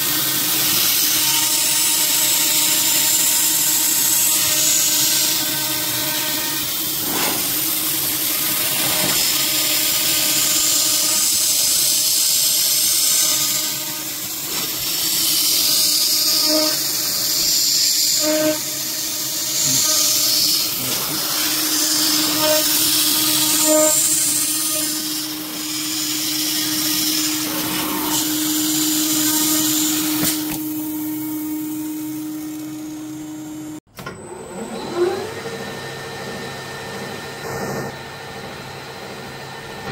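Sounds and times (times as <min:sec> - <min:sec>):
hiss of metal cutting: 0:00.0 - 0:33.7.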